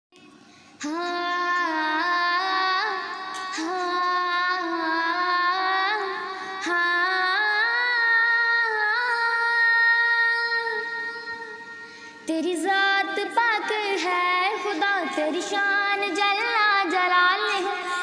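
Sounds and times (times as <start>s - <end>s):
woman singing unaccompanied: 0.8s - 11.6s, 12.3s - 18.0s.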